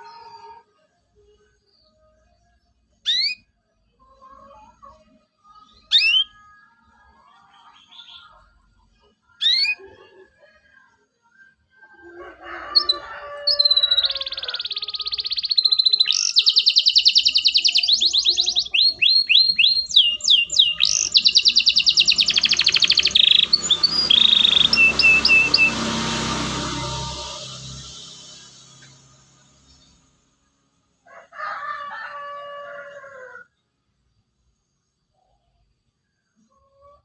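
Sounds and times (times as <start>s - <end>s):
canary singing: 0.0s - 30.6s.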